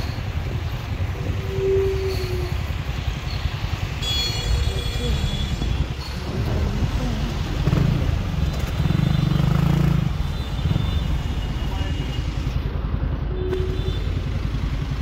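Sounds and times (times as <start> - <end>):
motorcycle and truck engines rumbling: 0.0 - 15.0.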